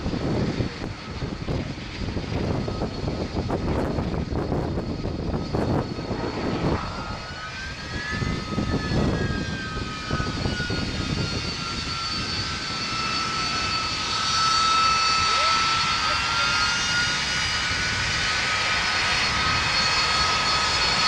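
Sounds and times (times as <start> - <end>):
jet engine roaring on takeoff: 0.0 - 21.0.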